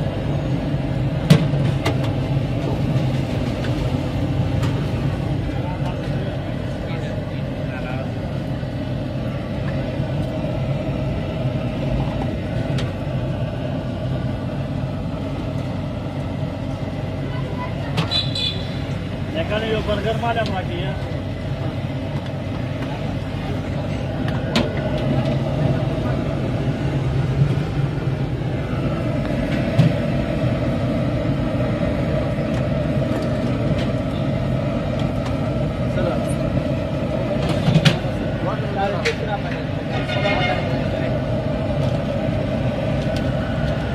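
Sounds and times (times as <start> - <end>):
traffic rumble: 0.0 - 43.9.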